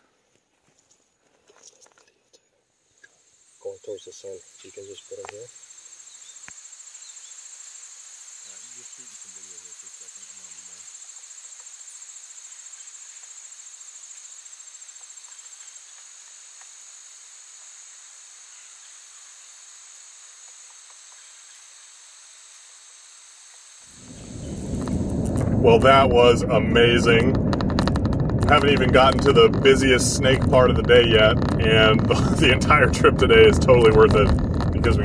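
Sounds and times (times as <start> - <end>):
insect chorus trilling: 2.9 - 35.0.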